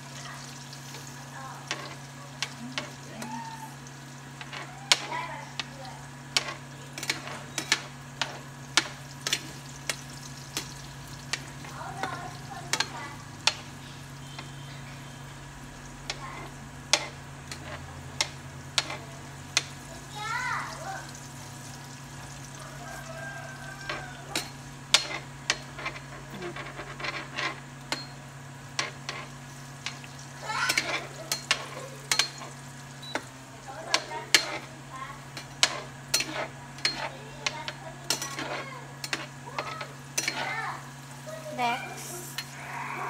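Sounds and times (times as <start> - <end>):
vegetables sizzling in a frying pan: 0.0 - 43.0
spoon knocking and scraping a pan: 0.9 - 3.3, 4.3 - 14.7, 16.0 - 19.8, 20.7 - 40.8.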